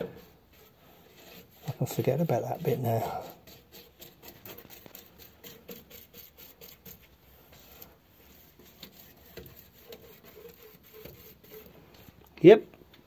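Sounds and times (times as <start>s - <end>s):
paintbrush scrubbing strokes: 0.0s - 12.3s.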